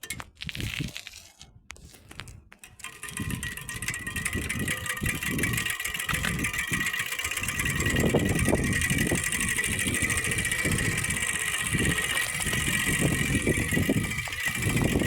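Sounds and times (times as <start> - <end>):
plastic strips rattling on bicycle spokes: 0.0 - 15.0.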